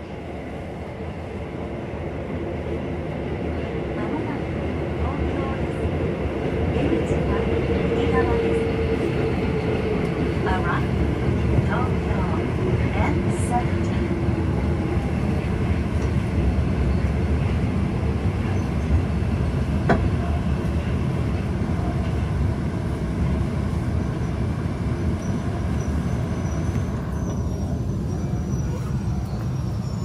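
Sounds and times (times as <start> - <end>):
subway train rumble: 0.0 - 30.0.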